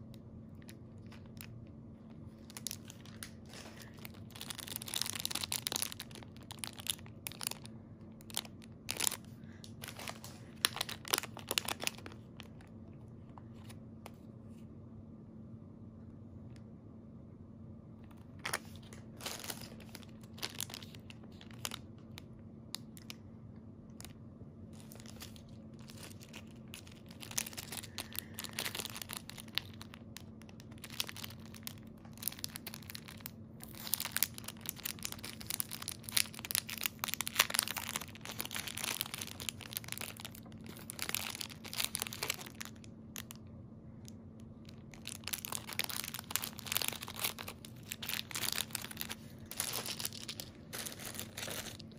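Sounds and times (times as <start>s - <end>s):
faint low hum: 0.0s - 51.9s
plastic bags crinkling: 0.6s - 1.5s, 2.3s - 12.7s, 18.4s - 23.2s, 24.7s - 43.4s, 44.6s - 51.9s.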